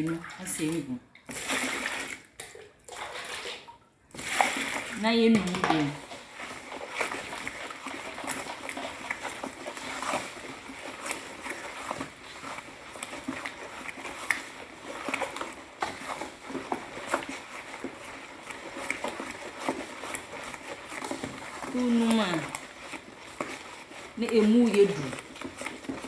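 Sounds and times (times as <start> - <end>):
stick stirring soapy liquid: 0.0 - 26.0.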